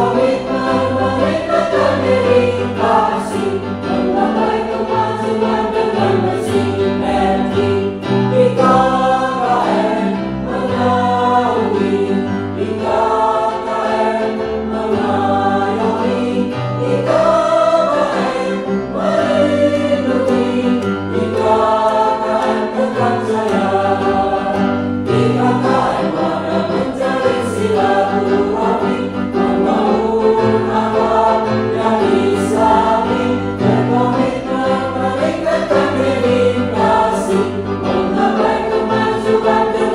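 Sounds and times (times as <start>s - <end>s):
electronic keyboard sustained notes: 0.0s - 39.9s
mixed choir singing: 0.0s - 39.9s.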